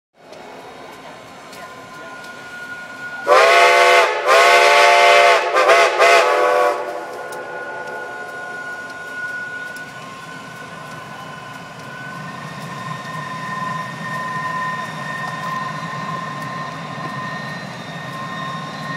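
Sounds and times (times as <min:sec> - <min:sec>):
train running: 0:00.2 - 0:18.9
steam locomotive whistle: 0:01.9 - 0:18.9.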